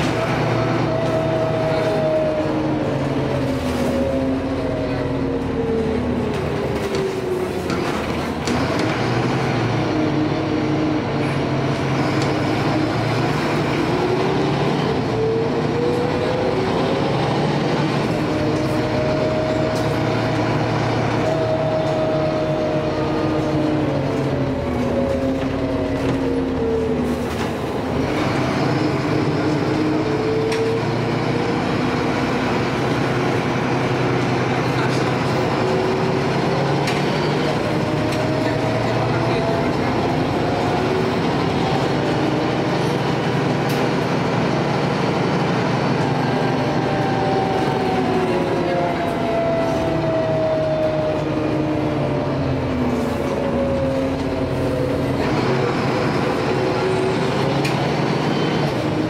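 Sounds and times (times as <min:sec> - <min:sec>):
bus engine droning: 0:00.0 - 0:59.0
road rumble: 0:00.0 - 0:59.0.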